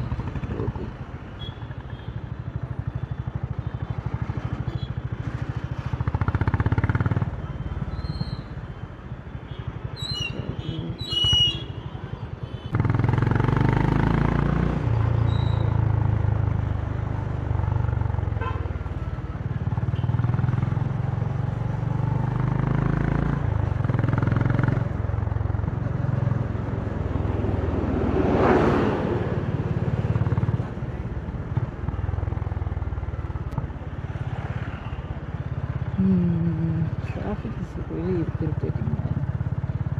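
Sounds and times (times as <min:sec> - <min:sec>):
motorcycle engine idling and pulling away: 0:00.0 - 0:08.6, 0:12.8 - 0:39.9.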